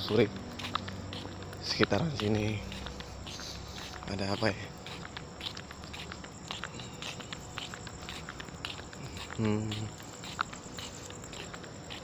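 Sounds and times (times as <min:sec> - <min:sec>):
crickets chirping: 0:00.0 - 0:12.0
faint ticking steps: 0:00.0 - 0:12.0.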